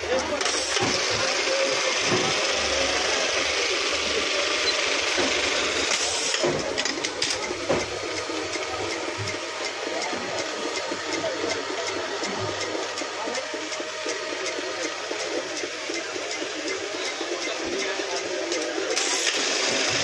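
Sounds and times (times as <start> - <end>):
sewing machine whirring: 0.0 - 20.0
faint regular ticking: 2.6 - 19.4.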